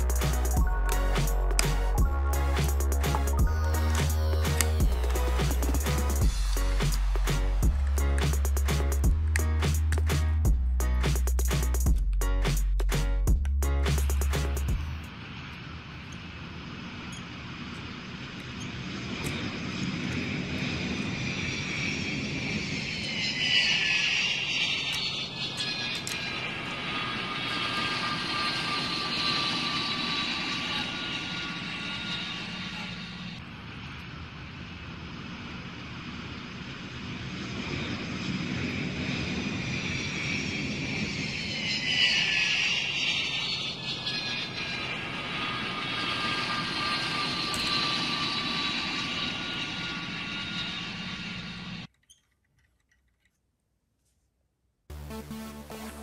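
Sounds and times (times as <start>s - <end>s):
small airplane engine drone: 0.0s - 52.0s.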